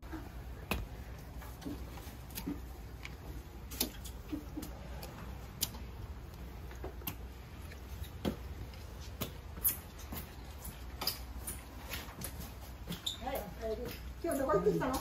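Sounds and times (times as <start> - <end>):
footsteps climbing stairs: 0.0 - 15.0.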